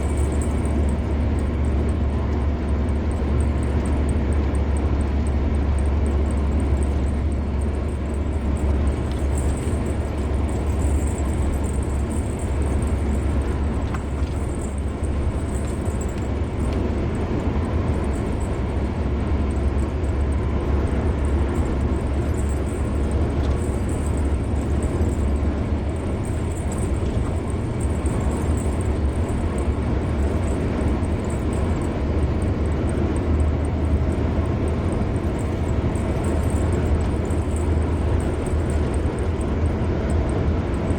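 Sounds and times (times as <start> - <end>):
car tyre and road noise: 0.0 - 40.9.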